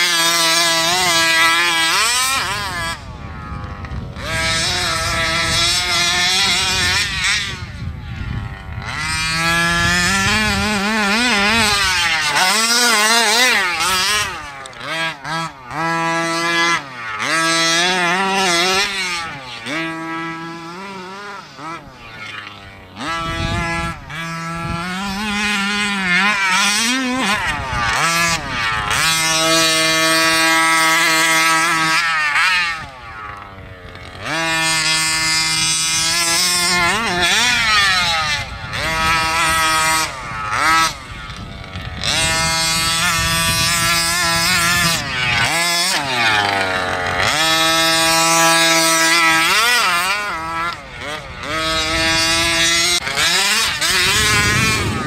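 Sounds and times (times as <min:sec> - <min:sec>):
small two-stroke engine revving: 0:00.0 - 0:55.0.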